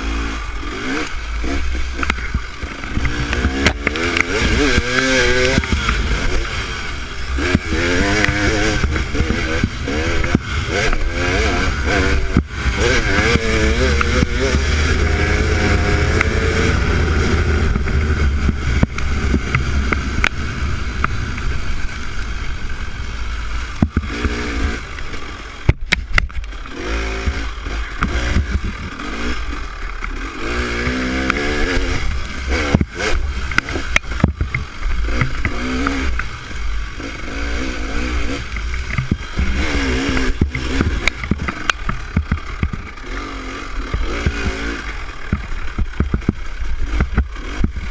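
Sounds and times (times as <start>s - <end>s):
dirt bike engine: 0.0s - 47.9s.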